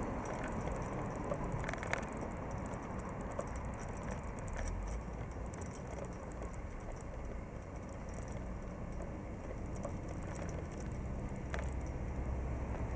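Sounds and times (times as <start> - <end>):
bicycle rolling on pavement: 0.0 - 12.9
light rattling clicks: 0.0 - 12.9
road traffic: 0.0 - 12.9.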